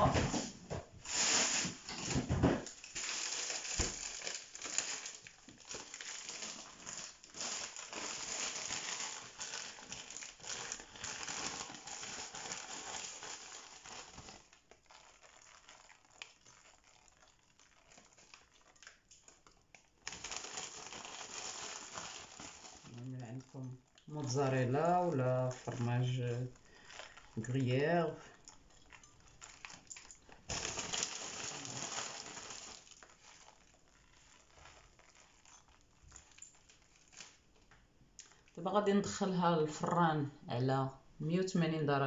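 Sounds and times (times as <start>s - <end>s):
plastic bag crinkling: 0.0s - 40.0s.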